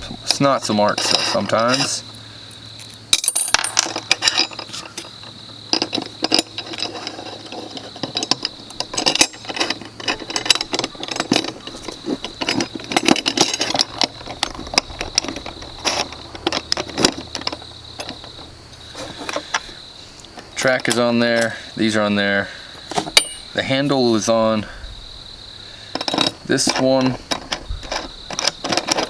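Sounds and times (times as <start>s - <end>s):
metal hardware clinking: 0.2s - 2.1s, 2.8s - 22.0s, 22.8s - 24.5s, 25.9s - 29.0s.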